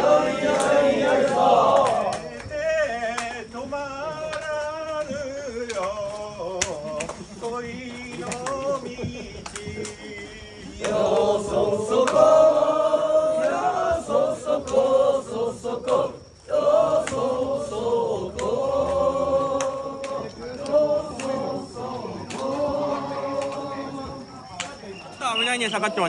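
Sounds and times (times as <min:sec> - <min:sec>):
men chanting together: 0:00.0 - 0:24.9.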